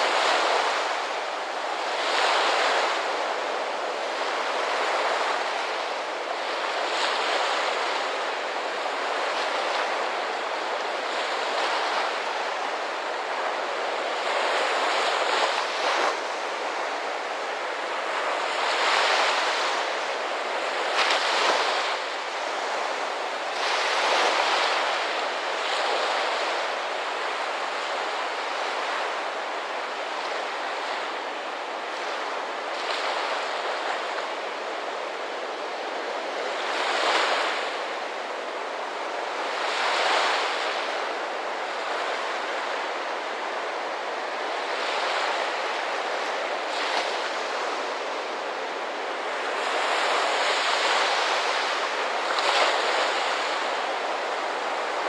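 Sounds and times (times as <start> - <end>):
ocean surf washing ashore: 0.0 - 55.0.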